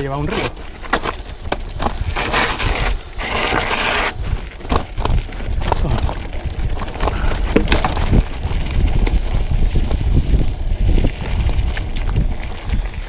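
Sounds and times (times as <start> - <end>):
bike rattling over bumps: 0.0 - 13.0
bike tyres on gravel: 0.0 - 13.0
wind buffeting the microphone: 1.2 - 13.0.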